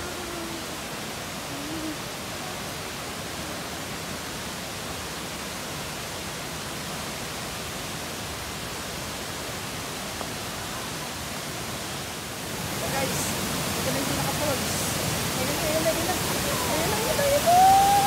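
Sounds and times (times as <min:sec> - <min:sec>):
waterfall and rushing water: 0:00.0 - 0:18.0.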